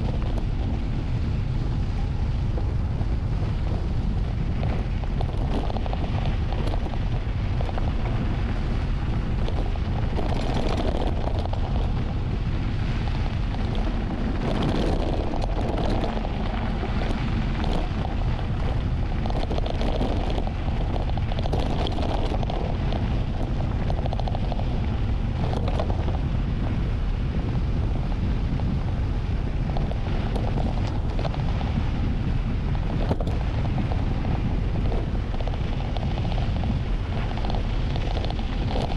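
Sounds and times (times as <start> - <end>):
bike clicks and rattles: 0.0 - 38.9
wind buffeting microphone: 0.0 - 38.9.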